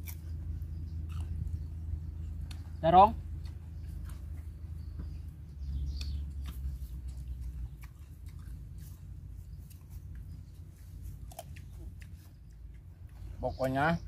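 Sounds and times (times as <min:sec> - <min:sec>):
person chewing food: 0:00.0 - 0:05.2, 0:05.8 - 0:13.3
low rumble: 0:00.0 - 0:14.0.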